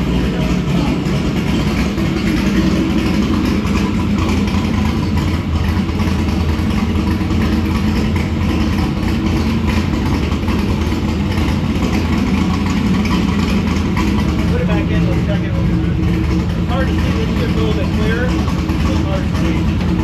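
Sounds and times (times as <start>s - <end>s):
car engine idling loudly: 0.0s - 20.0s.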